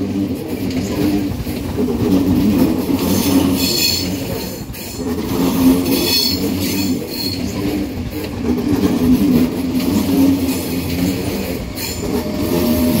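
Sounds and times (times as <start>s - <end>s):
electric train rumble and hum: 0.0s - 13.0s
train wheel squeal: 2.3s - 13.0s.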